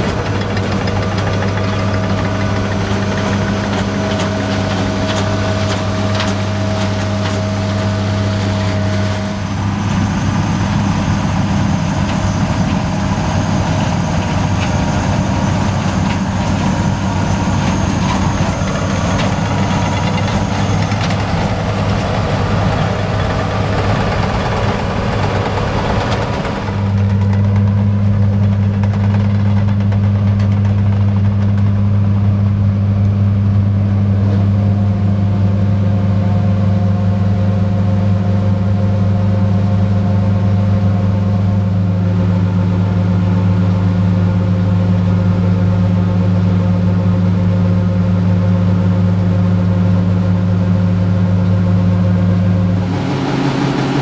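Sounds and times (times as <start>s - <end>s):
low engine drone: 0.0s - 54.0s.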